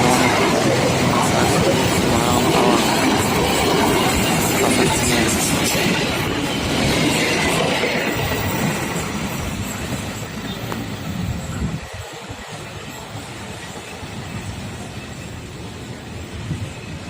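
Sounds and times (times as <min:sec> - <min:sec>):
train rumbling and rattling on rails: 0:00.0 - 0:17.0.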